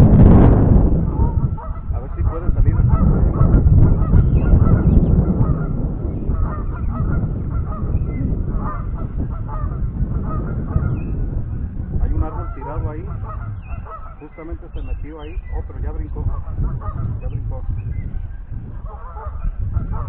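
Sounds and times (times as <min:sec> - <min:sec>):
geese honking: 0:01.1 - 0:20.0.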